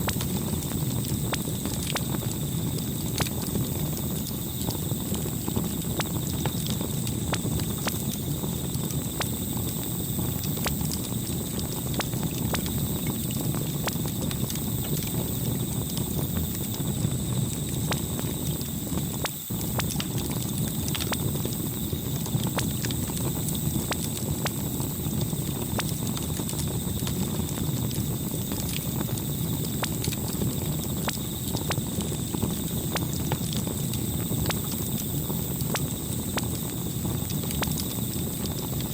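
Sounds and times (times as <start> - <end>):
campfire rumble: 0.0 - 38.9
burning wood crackling: 0.1 - 38.9.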